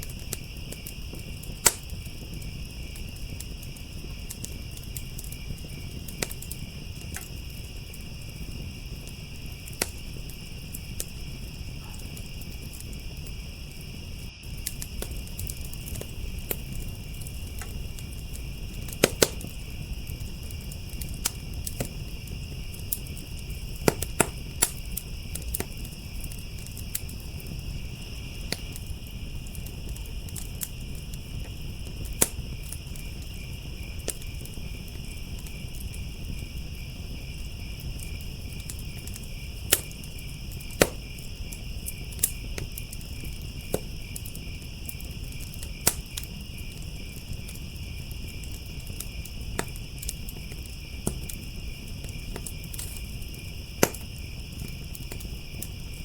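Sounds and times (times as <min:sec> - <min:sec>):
crickets trilling: 0:00.0 - 0:56.0
low rumble of burning: 0:00.0 - 0:56.0
wood fire crackling and popping: 0:00.0 - 0:56.0.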